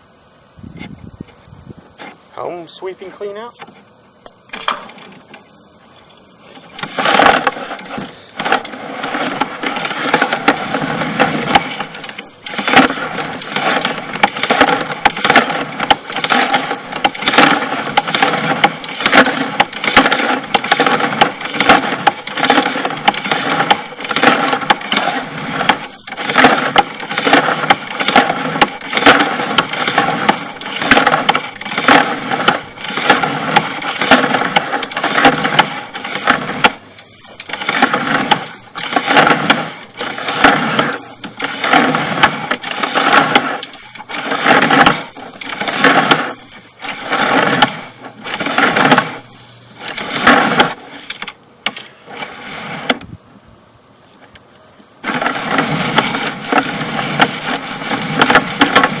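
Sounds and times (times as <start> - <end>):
cable rattling in drain pipe: 6.7 - 51.4, 55.0 - 59.0.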